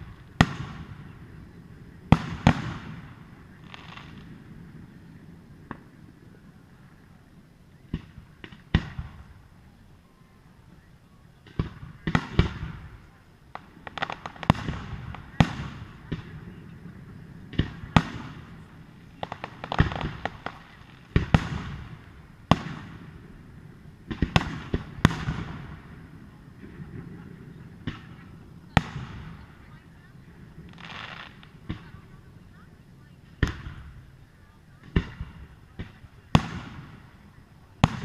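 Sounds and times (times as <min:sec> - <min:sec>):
fireworks bangs: 0:00.0 - 0:09.8, 0:11.4 - 0:38.0
fireworks crackle: 0:00.0 - 0:38.0.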